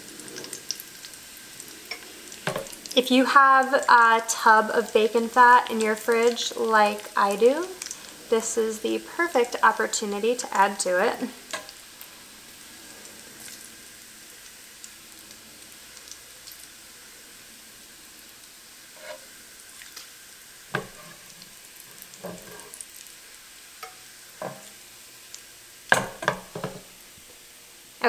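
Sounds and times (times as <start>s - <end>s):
bacon sizzling in a frying pan: 0.0s - 28.0s.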